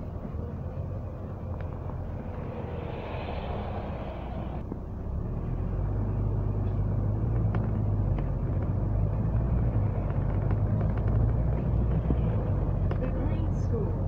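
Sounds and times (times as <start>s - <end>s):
bus engine droning: 0.0s - 14.0s.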